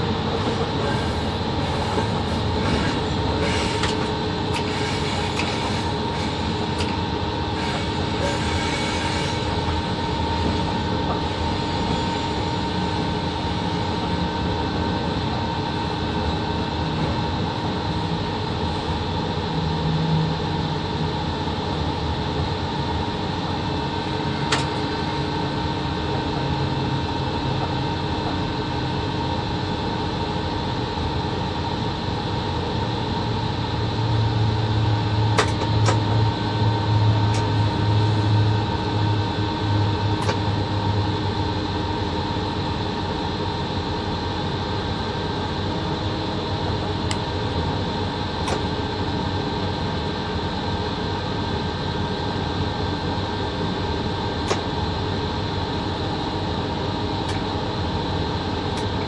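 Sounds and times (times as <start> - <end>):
locomotive machinery hum: 0.0 - 59.0.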